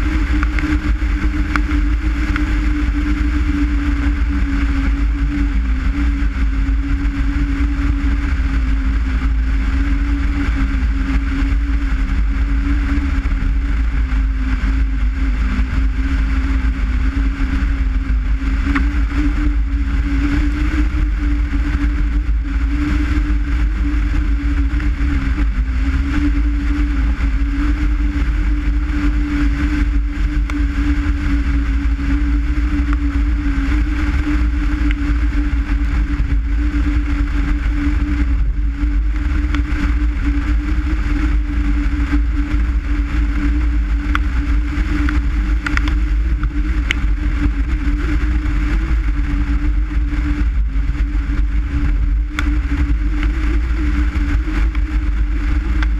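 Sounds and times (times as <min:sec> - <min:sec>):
car engine droning: 0:00.0 - 0:55.9
road noise rumble: 0:00.0 - 0:55.9.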